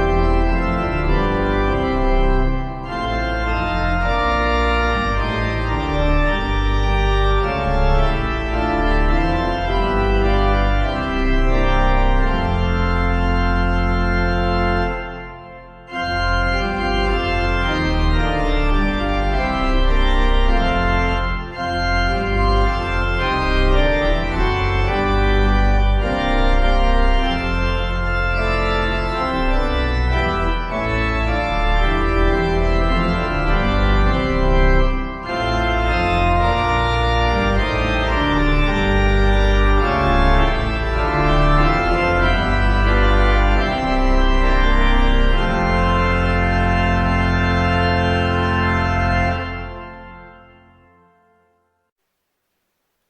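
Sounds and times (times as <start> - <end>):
organ playing slow chords: 0.0 - 51.7.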